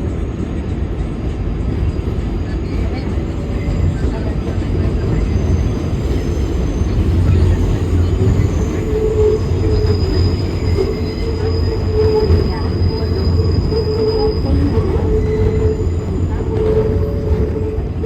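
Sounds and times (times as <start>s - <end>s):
subway train wheels rumbling: 0.0s - 18.0s
high wheel squeal: 2.7s - 18.0s.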